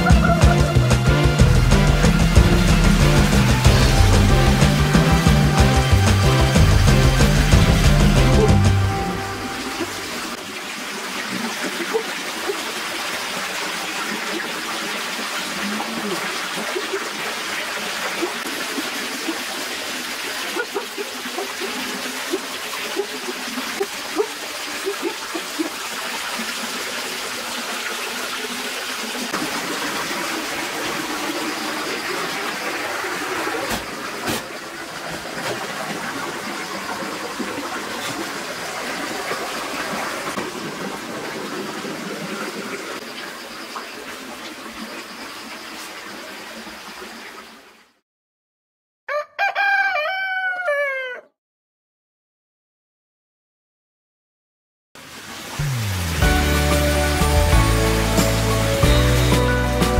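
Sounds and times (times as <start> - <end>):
running water rushing: 0.0 - 48.0, 55.0 - 59.9.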